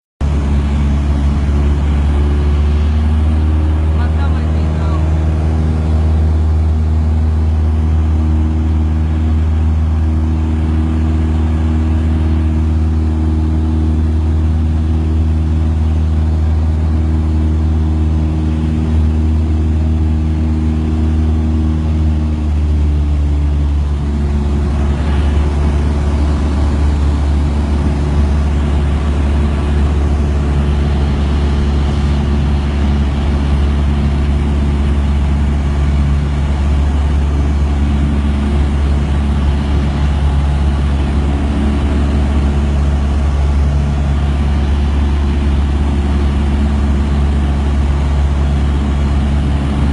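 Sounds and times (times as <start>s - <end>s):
engine drone with low hum: 0.2s - 49.9s.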